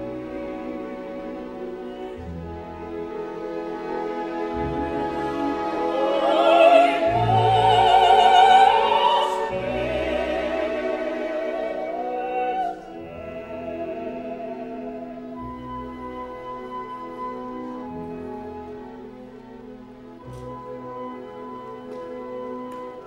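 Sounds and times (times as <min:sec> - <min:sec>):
slow classical music: 0:00.0 - 0:23.0.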